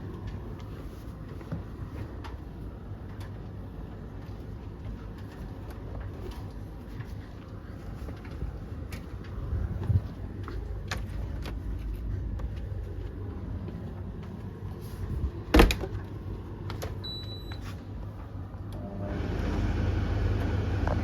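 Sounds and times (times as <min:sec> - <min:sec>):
tumble dryers rumbling: 0:00.0 - 0:21.0.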